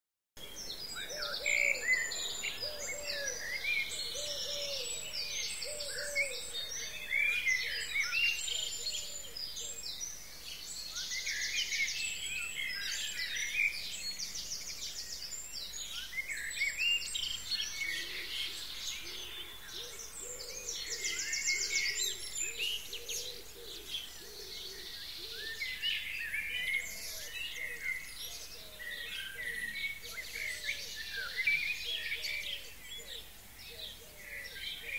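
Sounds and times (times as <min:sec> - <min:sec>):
songbirds chirping and trilling: 0:00.4 - 0:34.9.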